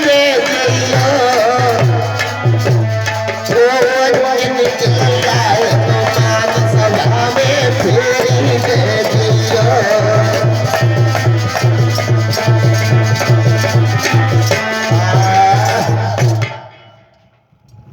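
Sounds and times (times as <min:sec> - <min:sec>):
hand drum beat: 0:00.0 - 0:16.7.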